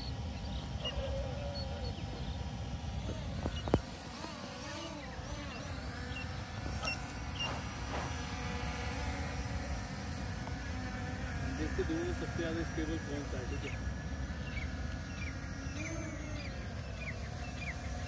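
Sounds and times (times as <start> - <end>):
drone propeller motors whining: 0.0 - 18.0.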